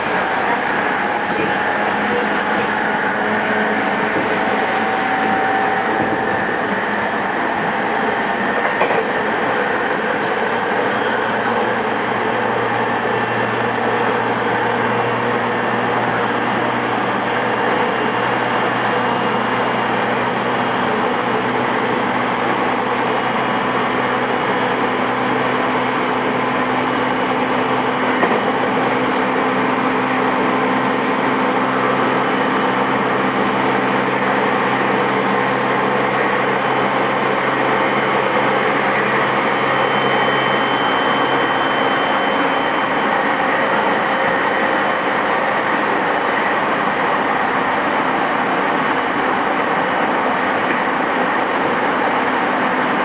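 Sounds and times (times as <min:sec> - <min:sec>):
electric train running rumble: 0:00.0 - 0:53.0.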